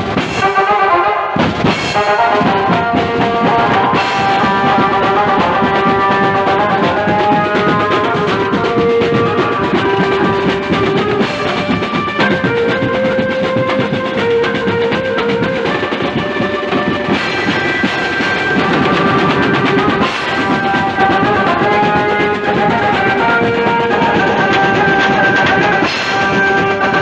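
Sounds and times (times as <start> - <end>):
street band drums beating: 0.0 - 0.6, 1.4 - 27.0
held band melody: 0.0 - 27.0.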